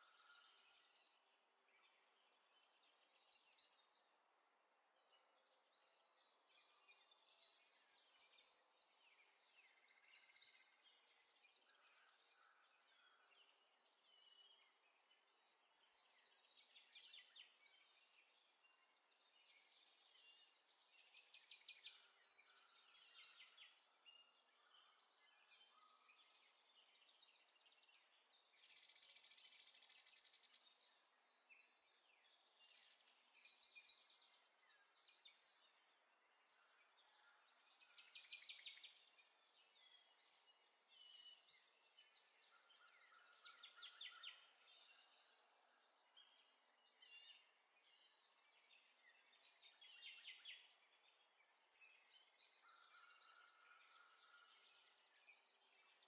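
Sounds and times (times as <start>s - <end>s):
faint bird chirps and trills: 0.0s - 56.0s.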